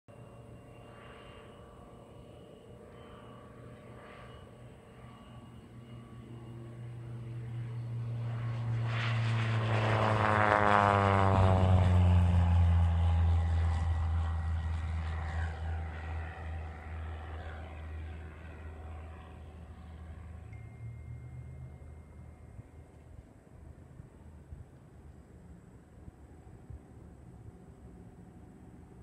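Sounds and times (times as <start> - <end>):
light plane flying by: 0.1 - 29.0.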